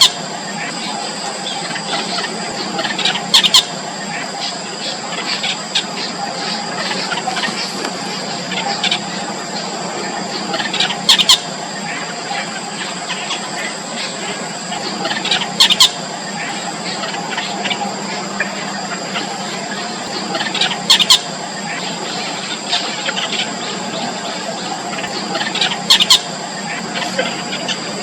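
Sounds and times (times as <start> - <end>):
high-pitched hum: 0.0 - 28.0
nestling birds cheeping: 0.0 - 28.0.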